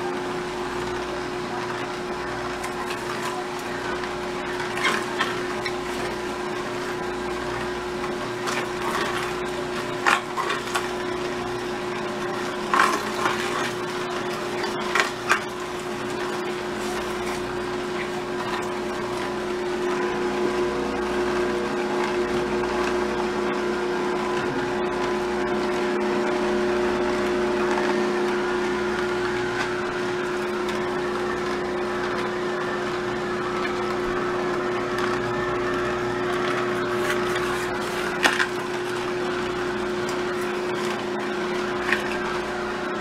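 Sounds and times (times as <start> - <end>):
auger crushing fruit: 0.0 - 43.0
juicer motor humming: 0.0 - 43.0.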